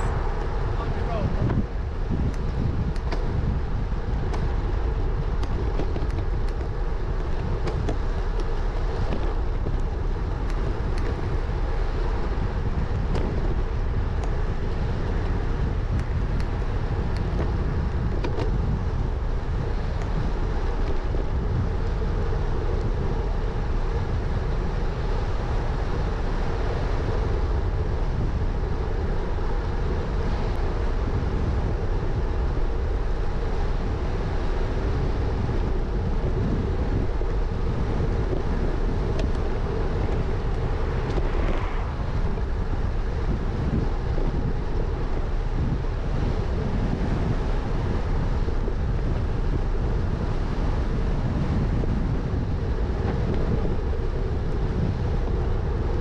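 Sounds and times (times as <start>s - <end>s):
bike tyres rolling on tarmac: 0.0s - 56.0s
wind buffeting microphone: 0.0s - 56.0s.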